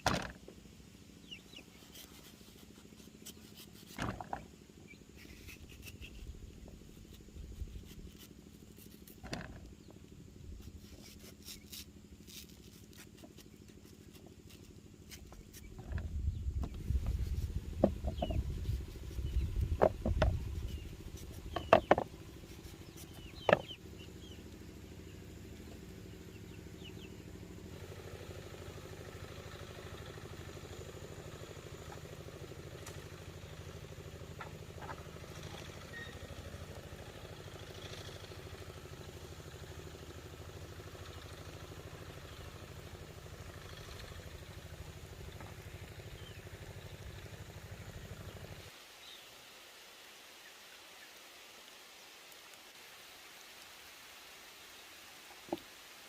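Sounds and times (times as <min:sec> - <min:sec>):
small engine humming: 0:00.0 - 0:48.7.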